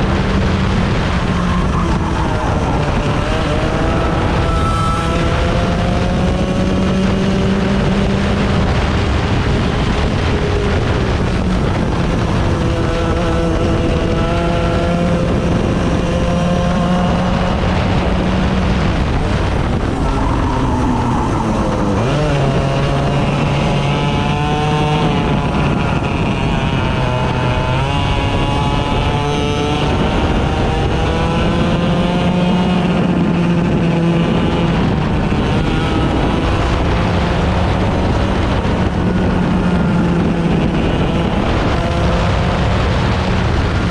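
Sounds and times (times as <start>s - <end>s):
racing engines accelerating: 0.0s - 43.9s.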